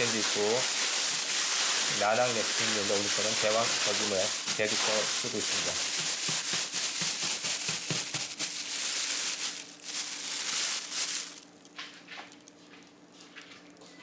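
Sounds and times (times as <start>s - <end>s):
kibble pellets rattling: 0.0s - 11.5s
plastic bag crinkling: 0.0s - 13.8s.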